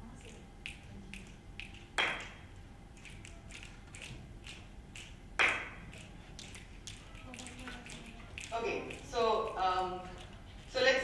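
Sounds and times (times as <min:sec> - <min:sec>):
hand claps: 0:00.2 - 0:09.6
people snapping fingers: 0:00.2 - 0:10.4.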